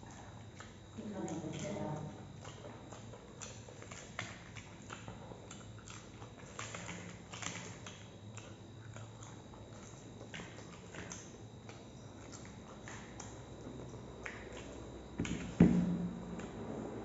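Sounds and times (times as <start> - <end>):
person chewing: 1.5 - 16.6.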